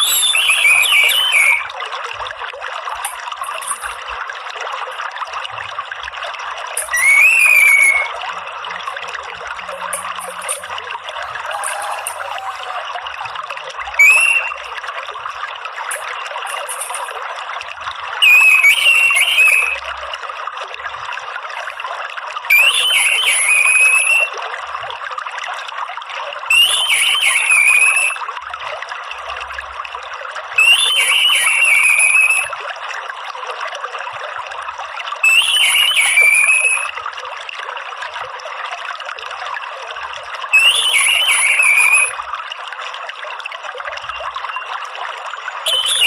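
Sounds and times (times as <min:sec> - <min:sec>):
water trickling: 0:00.0 - 0:46.0.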